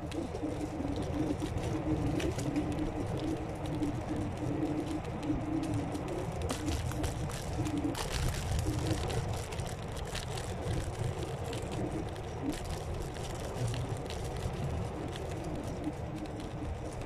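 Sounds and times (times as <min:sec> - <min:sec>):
electric scooter rumble: 0:00.0 - 0:17.0.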